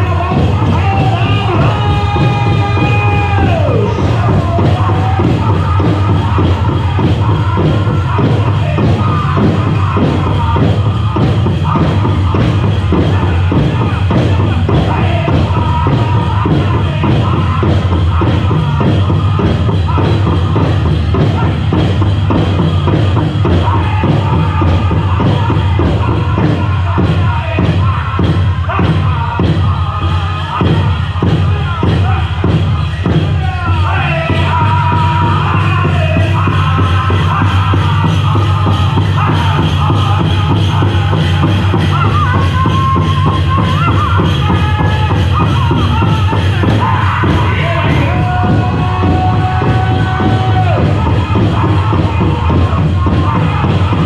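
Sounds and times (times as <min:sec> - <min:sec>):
group singing together: 0:00.0 - 0:54.0
large drum beat: 0:00.0 - 0:54.0.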